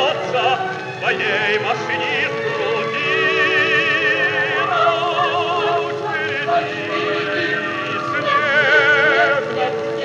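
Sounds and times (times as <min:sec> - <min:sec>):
orchestra with choir on old record: 0:00.0 - 0:10.0.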